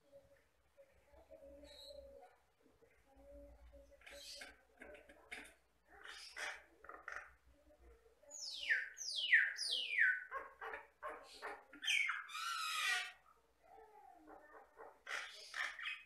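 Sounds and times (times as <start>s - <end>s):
myna bird singing: 0.0s - 16.0s.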